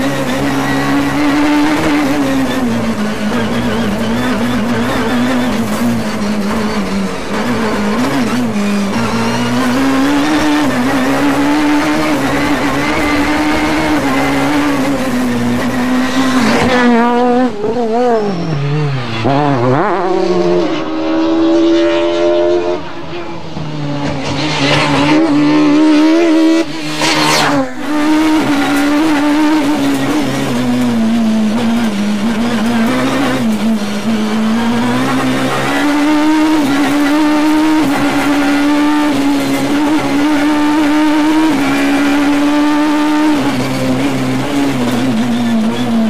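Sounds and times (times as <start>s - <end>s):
rally car engine revving hard: 0.0s - 46.0s.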